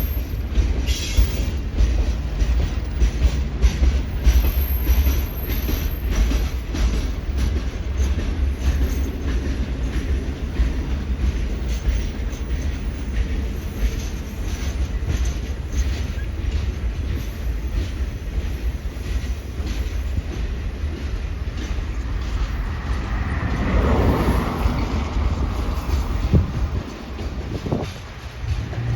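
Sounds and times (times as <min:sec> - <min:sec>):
freight train rumbling by: 0:00.0 - 0:28.9
wheels clattering on rails: 0:00.0 - 0:28.9.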